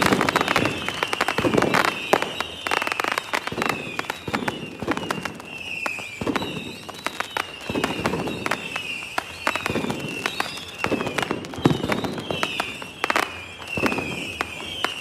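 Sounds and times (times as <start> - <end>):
fireworks crackling pops: 0.0 - 15.0
fireworks whistles falling in pitch: 0.0 - 15.0
low firework bursts: 0.0 - 15.0.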